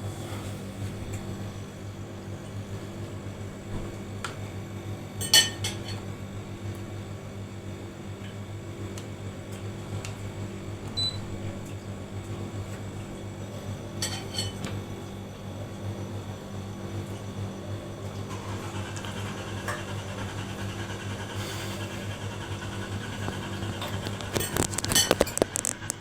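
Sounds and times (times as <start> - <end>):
refrigerator humming: 0.0 - 26.0.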